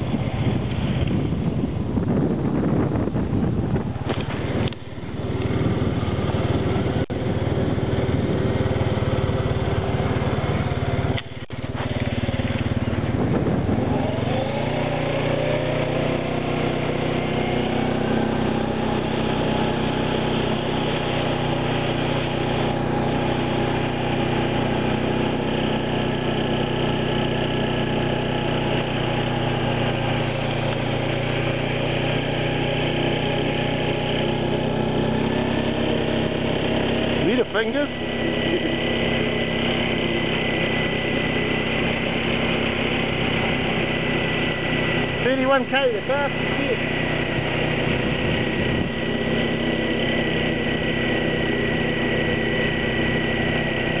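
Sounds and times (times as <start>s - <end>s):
vehicle engine: 0.0s - 54.0s.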